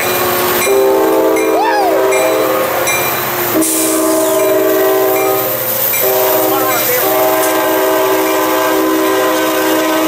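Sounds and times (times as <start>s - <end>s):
train horn blasts: 0.0s - 10.0s.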